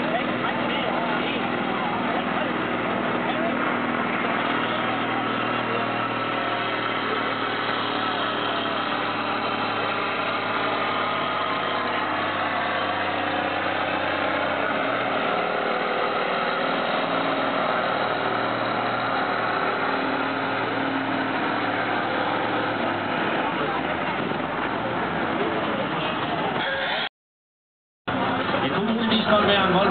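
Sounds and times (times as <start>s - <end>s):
diesel engine under heavy load: 0.0s - 27.1s, 28.1s - 29.9s.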